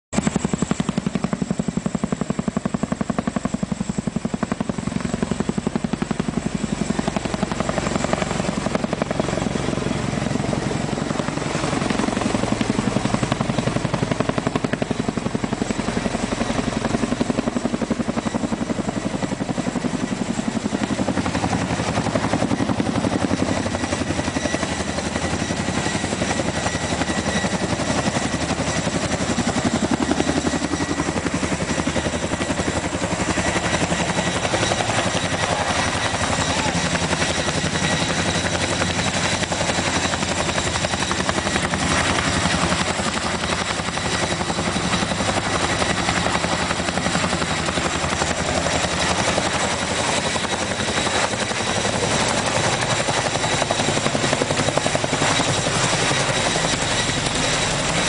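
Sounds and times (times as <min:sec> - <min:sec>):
helicopter rotors chopping: 0:00.1 - 0:58.0
high turbine whine: 0:00.2 - 0:58.0.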